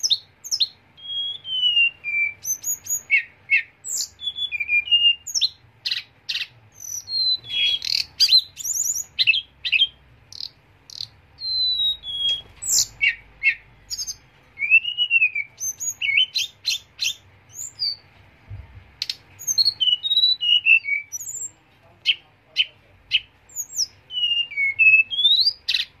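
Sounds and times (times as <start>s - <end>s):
songbird singing: 0.0s - 18.2s, 18.8s - 26.0s.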